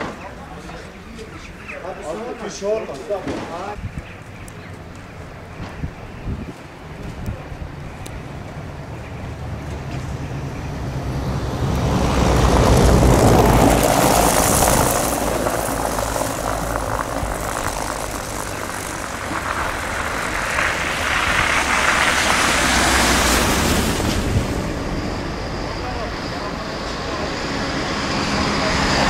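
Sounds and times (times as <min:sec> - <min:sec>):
traffic on slushy street: 0:00.0 - 0:29.0
vehicles passing: 0:00.0 - 0:29.0.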